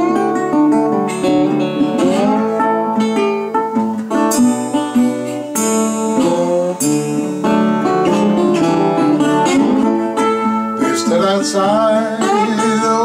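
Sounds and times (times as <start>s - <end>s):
acoustic guitar blues licks: 0.0s - 13.0s
live blues band playing: 0.0s - 13.0s.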